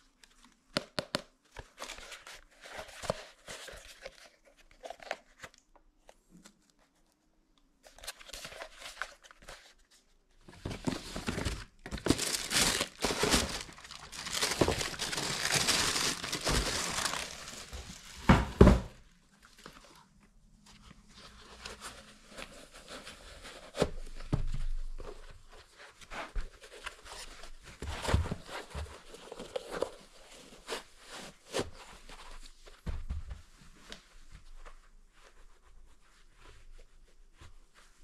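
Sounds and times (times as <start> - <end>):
wrapping crinkling and rustling: 1.5 - 7.1, 7.8 - 32.8.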